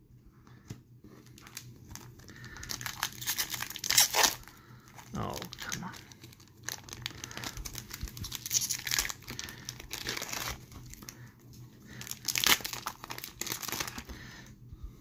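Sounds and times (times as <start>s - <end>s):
foil wrapper tearing and crinkling: 1.3s - 11.1s, 11.9s - 14.1s.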